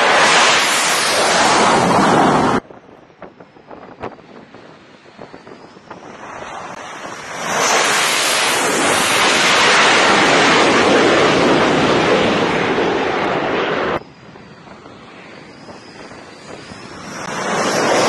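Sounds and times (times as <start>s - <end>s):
fighter jet engines roaring: 0.0s - 18.0s.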